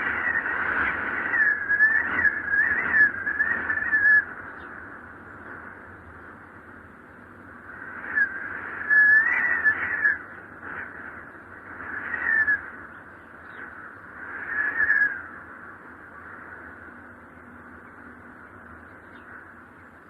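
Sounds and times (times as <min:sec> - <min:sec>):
wind whistling in gusts: 0:00.0 - 0:20.0.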